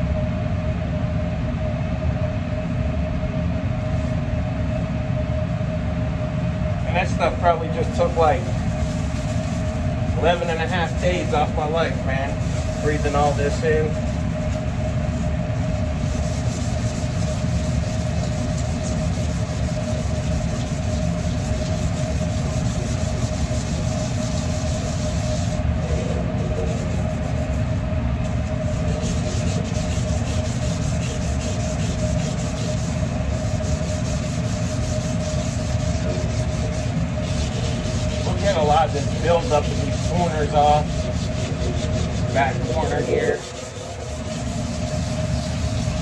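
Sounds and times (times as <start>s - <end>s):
steady low hum: 0.0s - 46.0s
grill screen scrubbing griddle: 7.0s - 46.0s.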